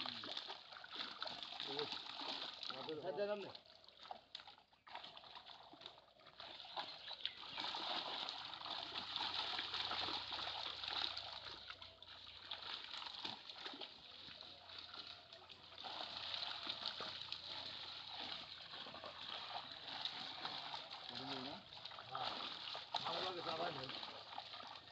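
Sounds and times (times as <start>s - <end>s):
water splashing and sloshing: 0.0s - 24.9s.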